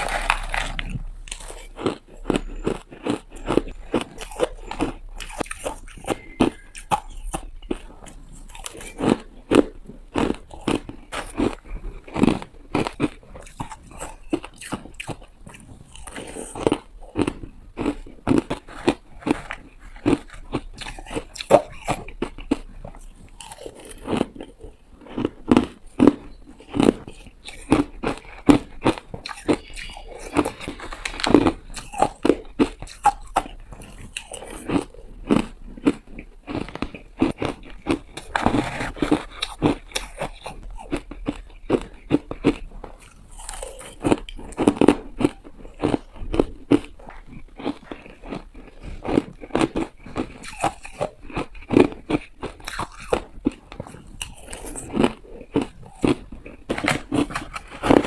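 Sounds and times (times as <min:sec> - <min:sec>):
person crunching ice: 0:00.0 - 0:58.0.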